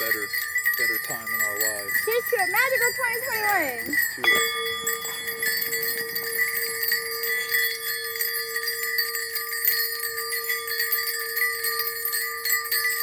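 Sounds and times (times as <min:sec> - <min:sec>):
bells jingling and ringing: 0:00.0 - 0:13.0.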